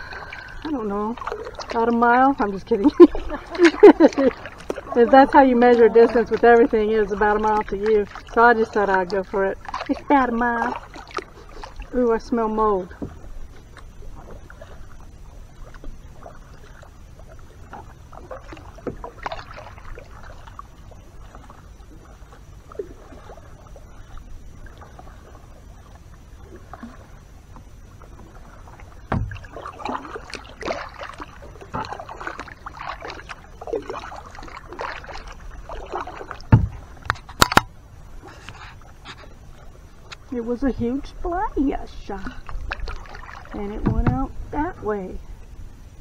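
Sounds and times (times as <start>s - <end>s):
paddle knock: 0.0s - 20.6s, 21.2s - 44.8s
water dripping and splashing: 0.0s - 44.8s
kayak paddle strokes in water: 0.0s - 46.0s
low wash of water: 0.0s - 46.0s.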